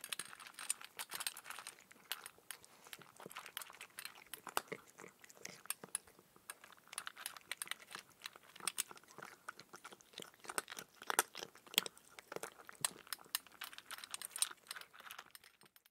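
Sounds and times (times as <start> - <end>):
cat crunching dry kibble: 0.0 - 15.9.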